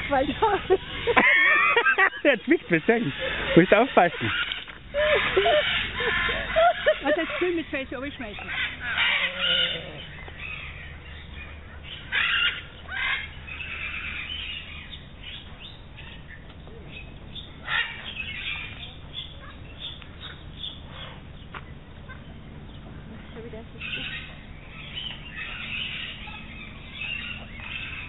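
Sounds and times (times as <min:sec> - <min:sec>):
birds calling sharply: 0:00.0 - 0:28.0.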